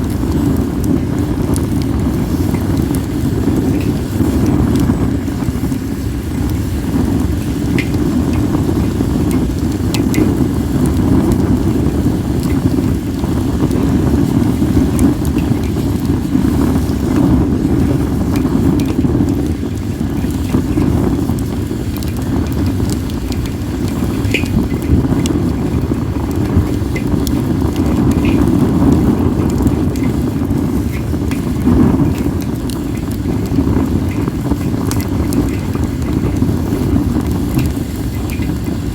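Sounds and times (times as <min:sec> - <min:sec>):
sharp pops of fire: 0:00.0 - 0:38.9
wind rumble on microphone: 0:00.0 - 0:38.9
wood fire crackling: 0:00.0 - 0:38.9.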